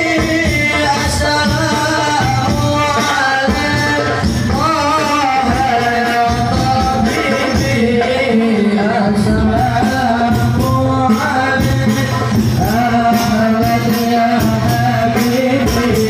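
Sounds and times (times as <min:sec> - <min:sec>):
loud music through speakers: 0:00.0 - 0:16.0
steady percussion: 0:00.0 - 0:16.0.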